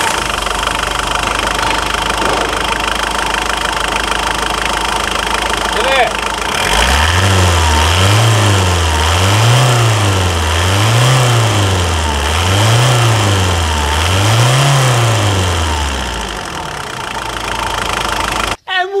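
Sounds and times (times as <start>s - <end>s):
diesel engine revving: 0.0s - 18.6s.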